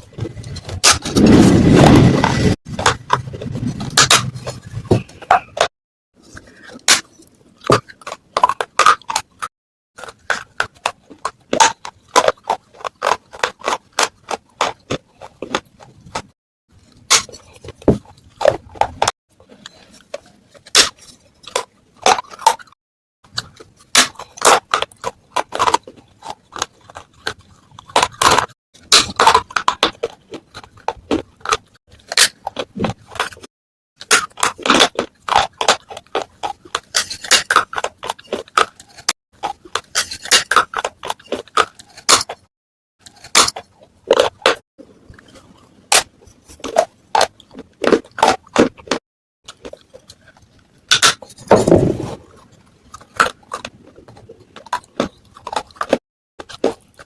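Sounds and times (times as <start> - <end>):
clay pot pieces crunching: 0.0 - 57.0.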